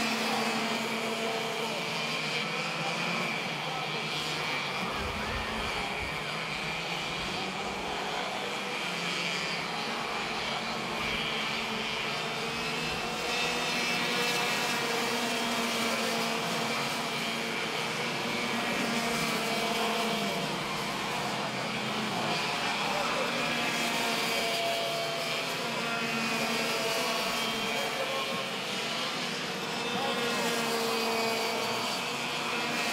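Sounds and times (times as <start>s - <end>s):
kart engines buzzing whine: 0.0s - 32.9s.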